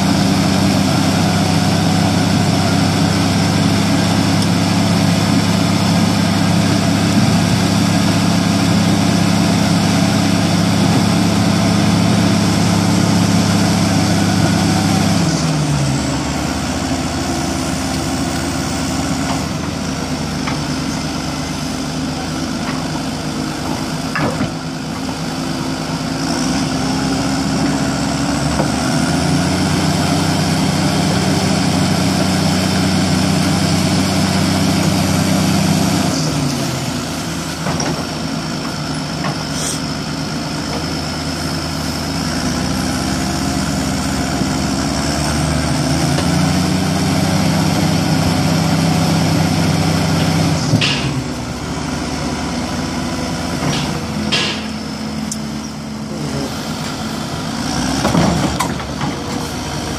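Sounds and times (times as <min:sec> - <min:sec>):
diesel engines working: 0:00.0 - 0:59.9.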